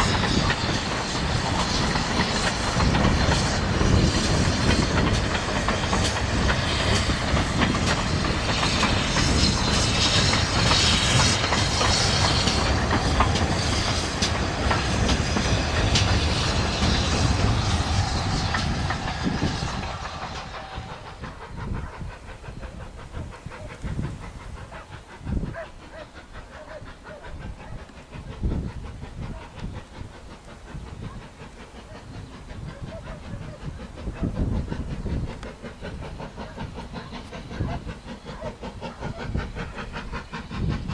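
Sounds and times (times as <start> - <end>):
steam train passing: 0.0 - 40.9.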